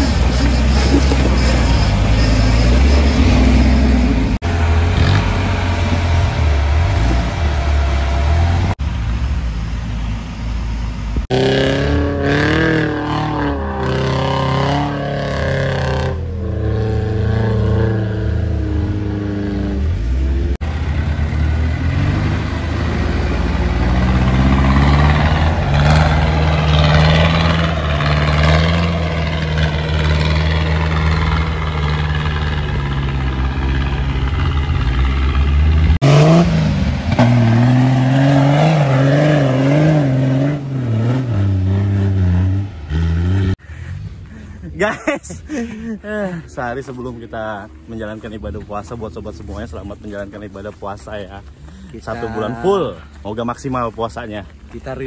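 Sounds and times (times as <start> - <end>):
off-road engines revving: 0.0 - 55.0.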